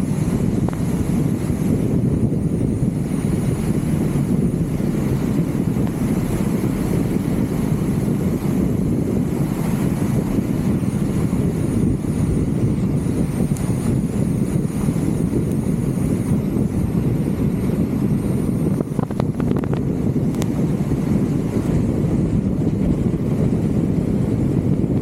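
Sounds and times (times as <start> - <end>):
faint high whine: 0.0 - 25.0
wind and road noise rumble: 0.0 - 25.0.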